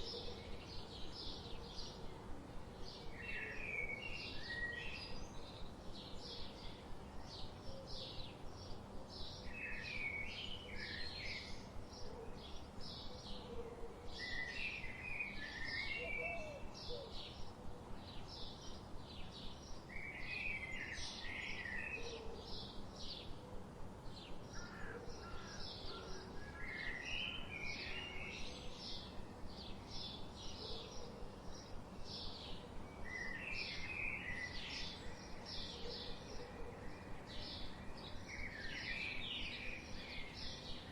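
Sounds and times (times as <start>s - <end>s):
steady low hiss: 0.0s - 40.9s.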